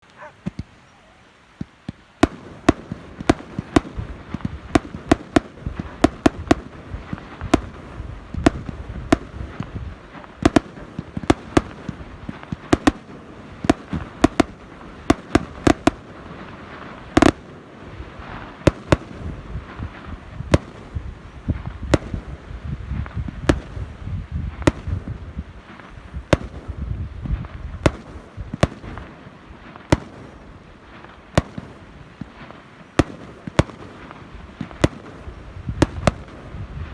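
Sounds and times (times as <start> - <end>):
fireworks bangs and cracks: 1.5 - 36.9.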